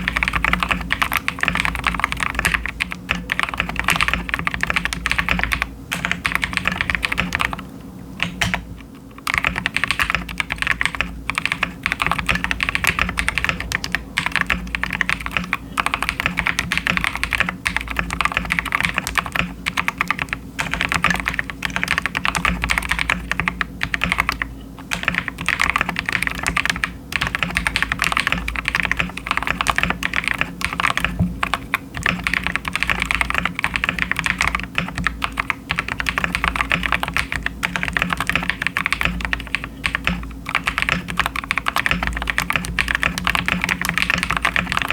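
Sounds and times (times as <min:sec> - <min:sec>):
mechanical keyboard typing: 0:00.0 - 0:07.6, 0:08.2 - 0:44.9.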